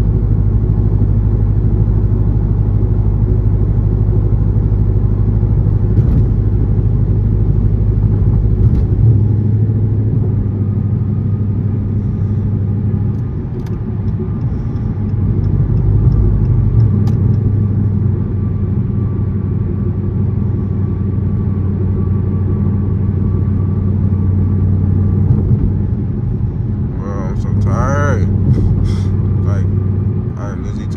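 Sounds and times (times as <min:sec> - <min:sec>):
car engine droning from inside: 0:00.0 - 0:30.9.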